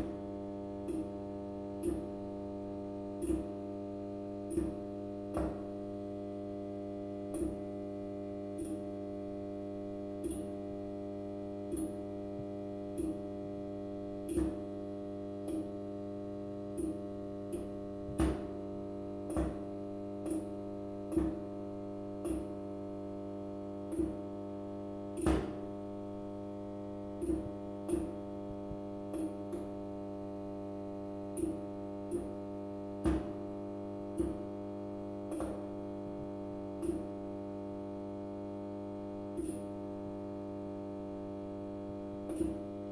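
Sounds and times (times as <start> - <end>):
fluorescent light humming: 0.0 - 42.9.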